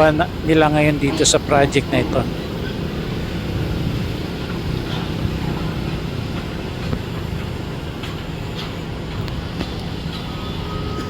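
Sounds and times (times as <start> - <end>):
engines running low rumble: 0.0 - 11.0.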